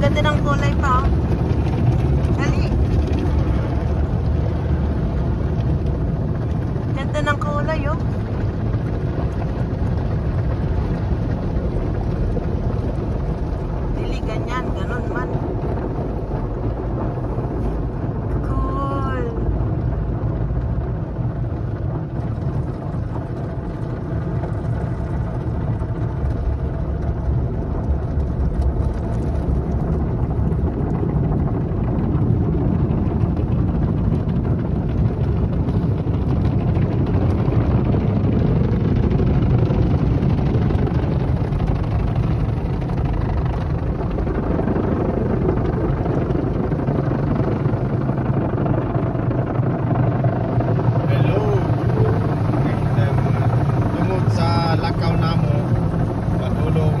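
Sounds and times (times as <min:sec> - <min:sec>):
car wash machinery rumbling: 0:00.0 - 0:57.0.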